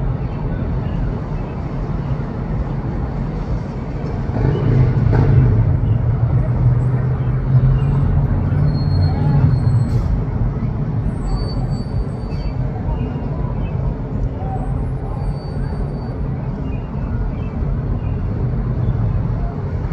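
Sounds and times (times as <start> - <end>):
city traffic noise: 0.0 - 19.9
car engine rumble passing: 0.1 - 19.9.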